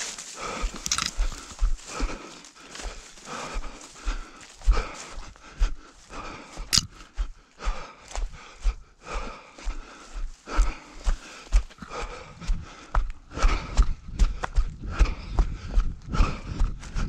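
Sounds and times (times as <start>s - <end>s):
running footsteps on forest ground: 0.0s - 17.0s.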